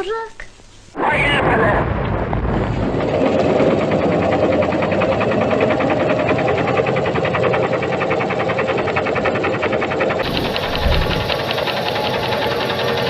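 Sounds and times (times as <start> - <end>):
washing machine running: 1.8 - 13.0.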